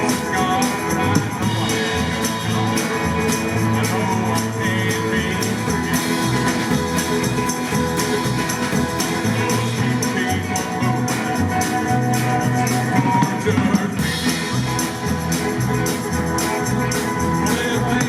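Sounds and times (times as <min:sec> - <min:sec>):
live band music: 0:00.0 - 0:18.0.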